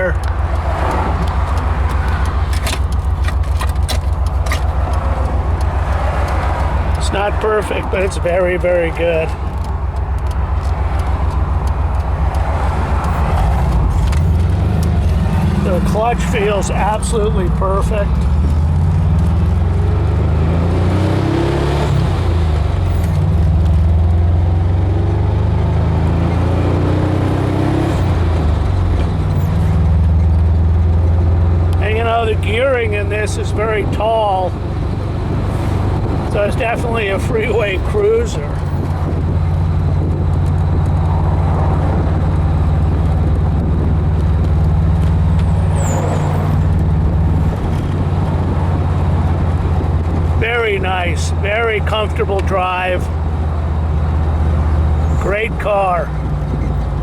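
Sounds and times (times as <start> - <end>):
car engine accelerating: 0.0 - 57.0
road noise: 0.0 - 57.0.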